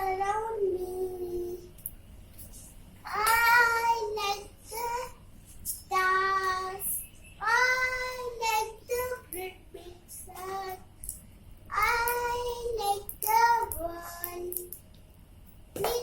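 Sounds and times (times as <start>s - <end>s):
child reciting in sing-song voice: 0.0s - 1.8s, 3.0s - 11.0s, 11.7s - 14.8s, 15.7s - 16.0s.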